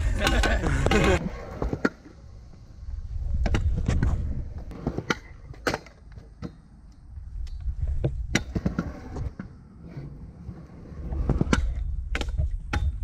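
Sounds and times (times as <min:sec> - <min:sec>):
scooter wheels rolling on concrete: 0:00.0 - 0:13.0.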